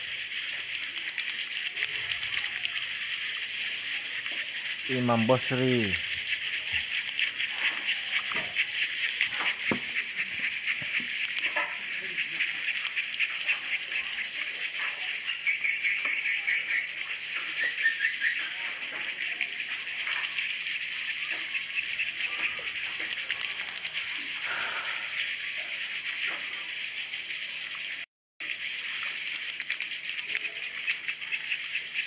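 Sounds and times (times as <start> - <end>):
swiftlets twittering: 0.0 - 32.0.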